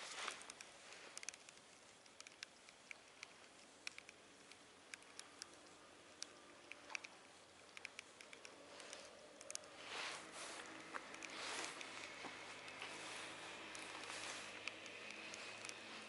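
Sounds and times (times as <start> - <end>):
faint hiss: 0.0 - 16.0
small irregular clicks: 0.0 - 16.0.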